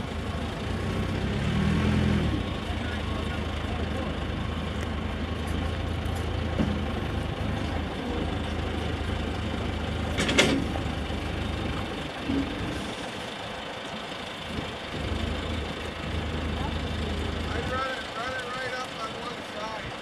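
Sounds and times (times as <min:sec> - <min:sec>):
backhoe diesel engine working: 0:00.0 - 0:20.0.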